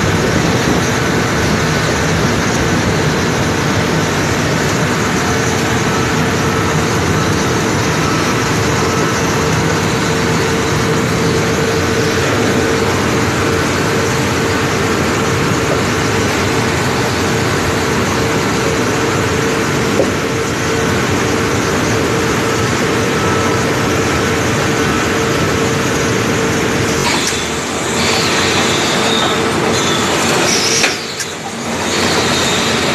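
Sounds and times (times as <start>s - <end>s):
casting conveyor machinery noise: 0.0s - 32.9s
constant hum: 0.0s - 32.9s.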